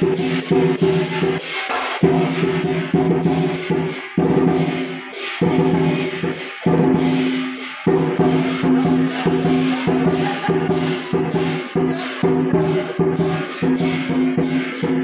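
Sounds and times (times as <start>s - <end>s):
cymbals: 0.0s - 15.0s
drum beating: 0.0s - 15.0s
gong: 0.0s - 15.0s.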